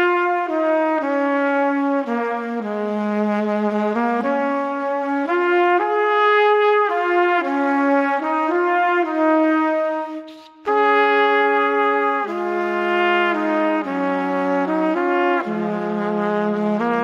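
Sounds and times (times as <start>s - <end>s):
slow brass melody: 0.0s - 17.0s.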